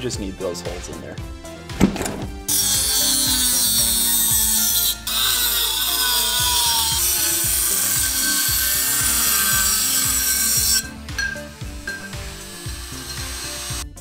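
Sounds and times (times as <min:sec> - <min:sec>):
background music with steady beat: 0:00.0 - 0:14.0
rotary tool grinding metal can: 0:02.5 - 0:14.0.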